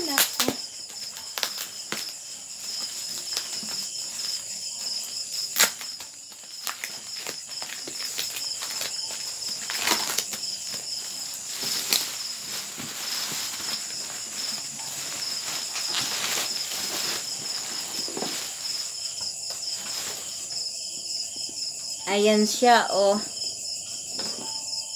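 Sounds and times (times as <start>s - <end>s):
bubble wrap rustling and crackling: 0.0s - 20.8s
crickets chirping: 0.0s - 24.9s.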